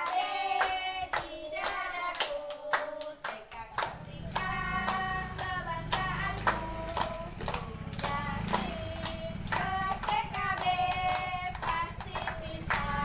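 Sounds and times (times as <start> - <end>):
children and adult singing: 0.0 - 13.0
hands clapping in time: 0.0 - 13.0.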